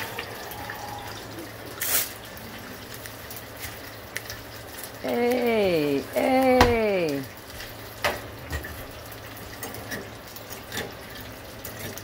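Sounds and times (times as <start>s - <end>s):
oil bubbling in deep fryer: 0.0s - 12.0s.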